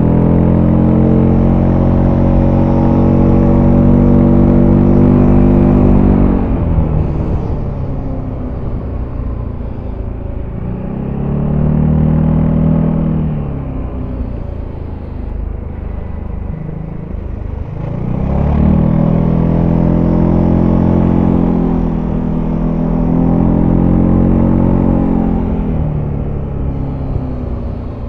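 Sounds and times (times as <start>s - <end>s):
scooter engine while riding: 0.0s - 28.0s.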